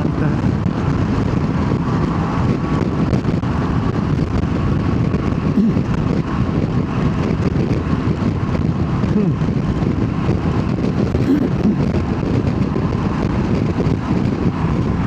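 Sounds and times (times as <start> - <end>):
motorcycle engine running: 0.0 - 15.0
wind rush: 0.0 - 15.0.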